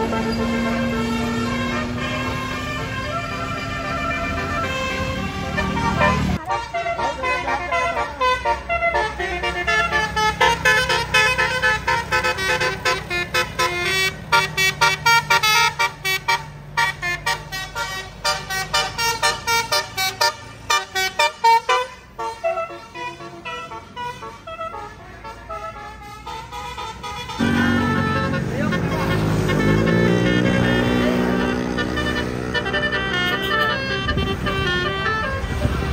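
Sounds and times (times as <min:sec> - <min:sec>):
bus engine hum: 0:00.0 - 0:35.9
musical air horn tune: 0:00.0 - 0:35.9.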